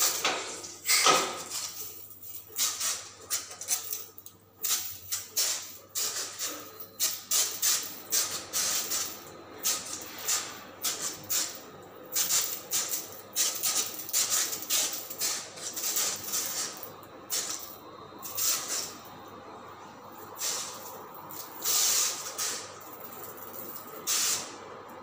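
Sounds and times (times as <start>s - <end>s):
spray hissing in bursts: 0.0s - 3.4s, 4.6s - 19.0s, 20.3s - 22.8s, 23.5s - 24.6s.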